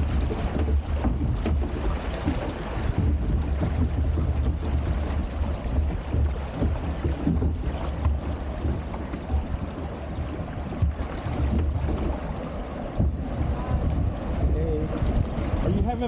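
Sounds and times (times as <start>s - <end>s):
water rushing: 0.0s - 16.0s
wind rumble on microphone: 0.0s - 16.0s.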